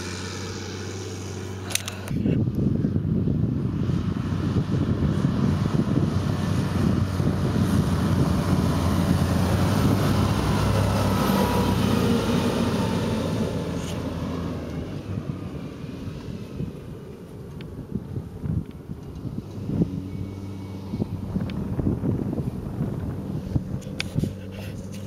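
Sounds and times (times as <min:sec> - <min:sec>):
tractor engine passing by: 0:00.0 - 0:25.0.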